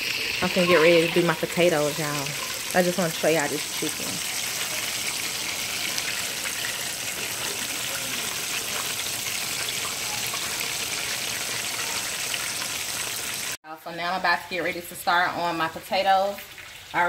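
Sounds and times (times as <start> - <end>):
chicken frying in oil: 0.0 - 13.6, 15.3 - 17.0.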